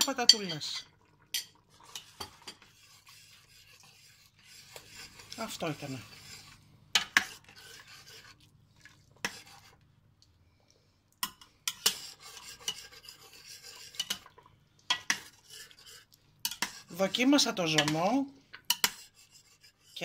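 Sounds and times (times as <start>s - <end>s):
spoon scraping in a pot: 0.0s - 9.9s, 11.2s - 20.0s.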